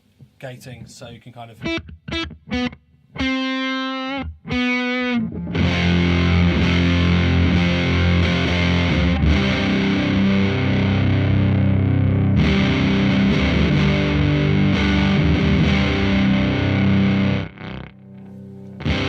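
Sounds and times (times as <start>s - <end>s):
gated fuzz electric guitar: 1.6s - 19.0s.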